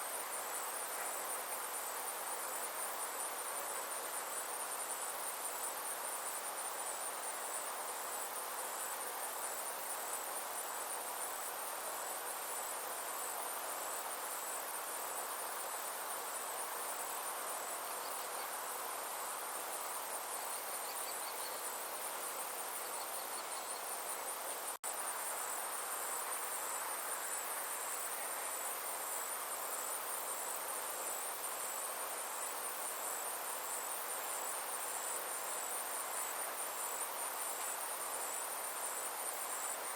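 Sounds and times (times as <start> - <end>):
insects trilling: 0.0 - 39.9
soft even hiss: 0.0 - 39.9.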